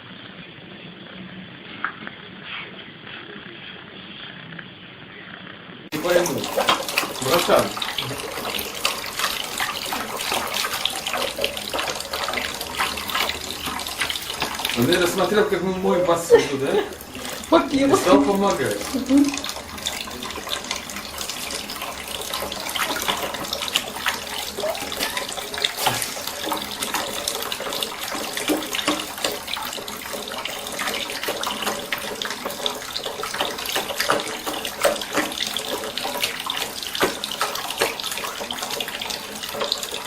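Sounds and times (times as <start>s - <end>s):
tap water running into a sink: 5.9s - 40.0s.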